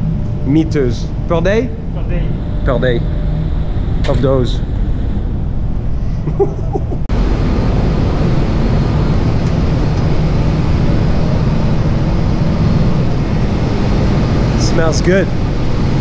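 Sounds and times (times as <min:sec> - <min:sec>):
low rumble: 0:00.0 - 0:16.0
machinery and ventilation roar: 0:00.0 - 0:16.0.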